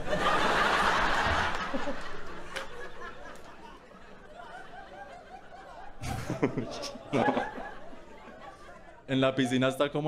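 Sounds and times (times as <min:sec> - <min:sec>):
audience laughing: 0:00.0 - 0:09.1.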